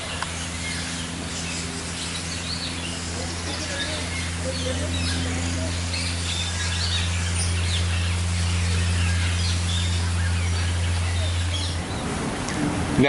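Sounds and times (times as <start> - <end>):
birds chirping and calling: 0.0 - 13.0
steady low hum: 0.0 - 13.0.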